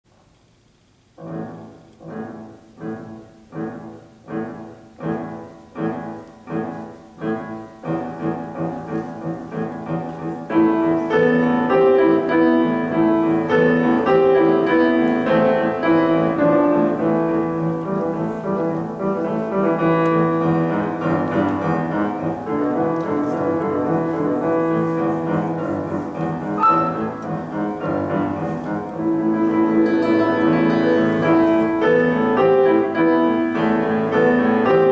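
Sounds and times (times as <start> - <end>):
solo grand piano: 0.1 - 34.9.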